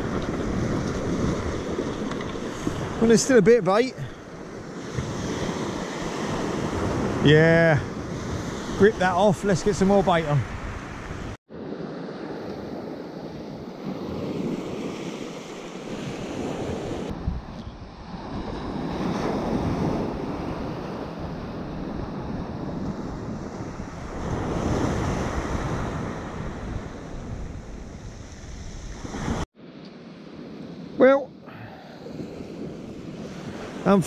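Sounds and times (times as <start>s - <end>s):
wind buffeting microphone: 0.0s - 29.5s
surf breaking on a beach: 0.0s - 34.0s.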